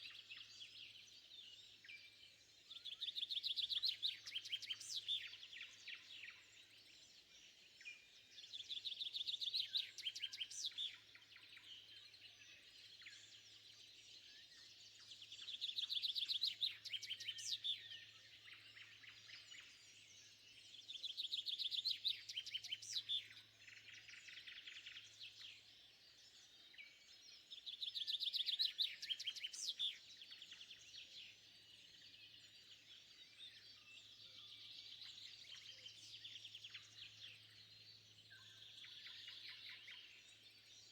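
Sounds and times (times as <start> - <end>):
bird singing trilled phrases: 0.0 - 40.9
songbirds singing: 0.0 - 40.9.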